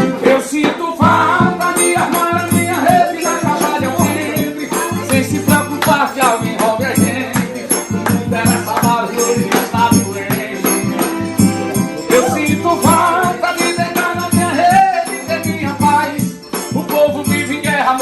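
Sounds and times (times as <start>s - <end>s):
recorded folk dance music: 0.0s - 18.0s.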